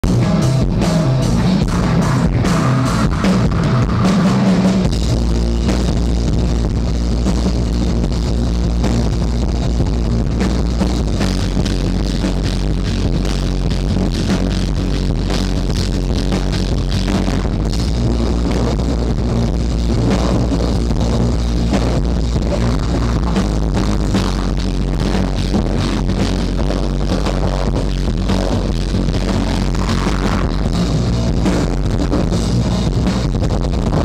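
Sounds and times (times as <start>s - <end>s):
drum and cymbal hits: 0.0s - 34.0s
live band playing loud: 0.0s - 34.0s.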